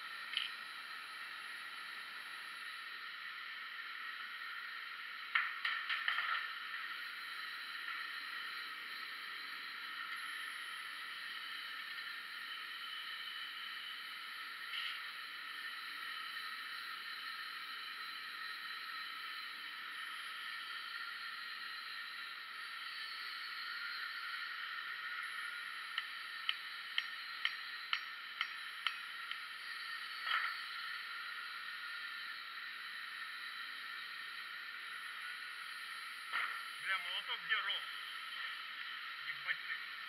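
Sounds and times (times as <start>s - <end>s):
forge burner hissing: 0.0s - 40.0s.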